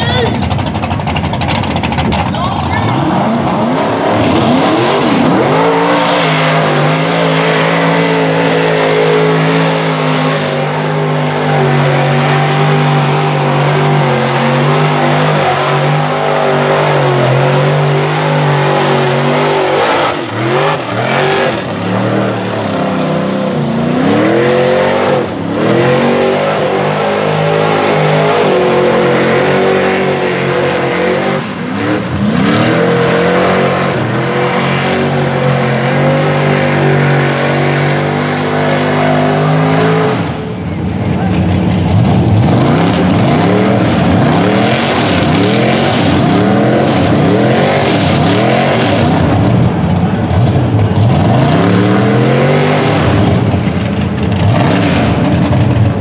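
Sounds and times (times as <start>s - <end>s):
truck engine revving in mud: 0.0s - 56.0s.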